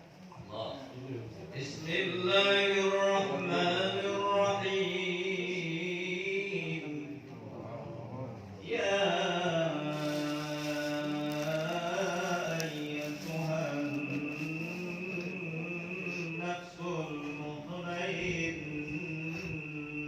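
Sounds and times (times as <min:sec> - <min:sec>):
man chanting: 0:00.6 - 0:20.0.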